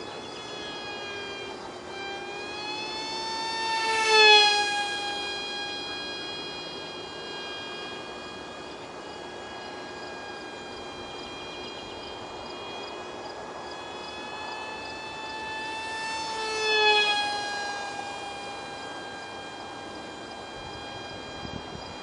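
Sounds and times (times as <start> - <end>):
small model jet motor whining: 0.0 - 22.0.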